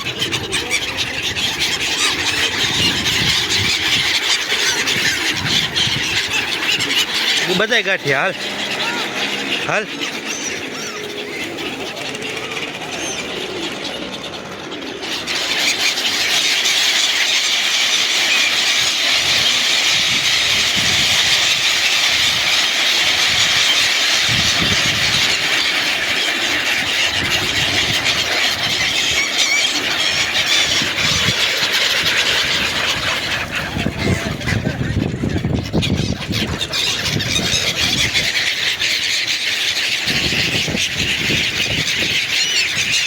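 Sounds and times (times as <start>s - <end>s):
flock of birds squealing: 0.0s - 43.0s.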